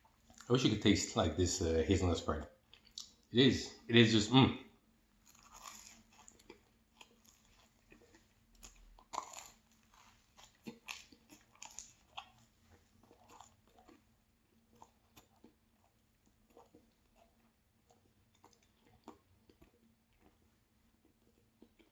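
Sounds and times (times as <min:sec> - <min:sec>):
person chewing pastry: 0:00.0 - 0:00.6, 0:02.6 - 0:03.3, 0:05.1 - 0:21.9.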